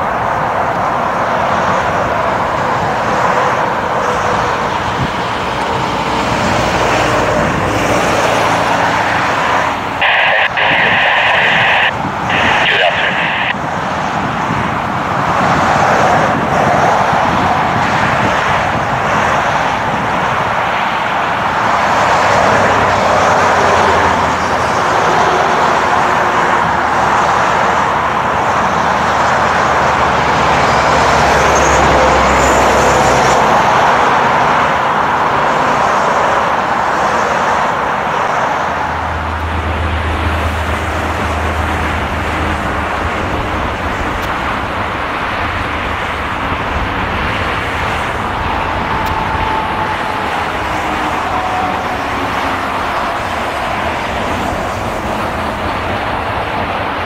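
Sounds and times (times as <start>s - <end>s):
jet engines roaring at takeoff: 0.0s - 57.0s.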